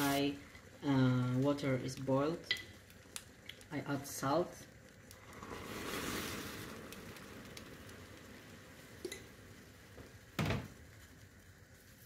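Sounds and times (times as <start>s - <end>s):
fizzing as salt is poured: 0.0s - 12.0s
water boiling in a pot: 0.0s - 12.0s.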